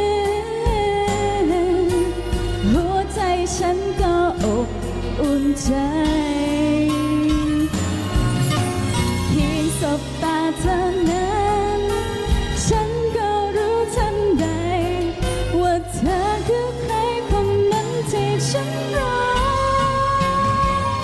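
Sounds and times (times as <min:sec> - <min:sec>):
woman singing with vibrato: 0:00.0 - 0:07.9, 0:09.2 - 0:21.0
backing music: 0:00.0 - 0:21.0.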